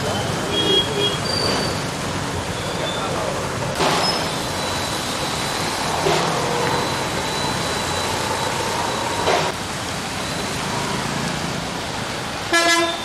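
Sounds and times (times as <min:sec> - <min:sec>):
traffic on flooded road: 0:00.0 - 0:13.0.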